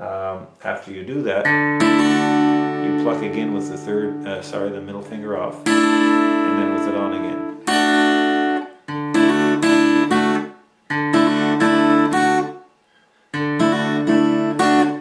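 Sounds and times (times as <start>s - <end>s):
acoustic guitar fingerpicking: 1.5s - 12.6s, 13.3s - 15.0s.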